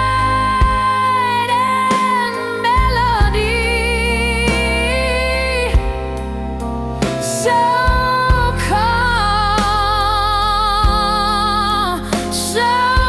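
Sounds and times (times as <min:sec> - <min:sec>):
slow blues ballad music: 0:00.0 - 0:13.0.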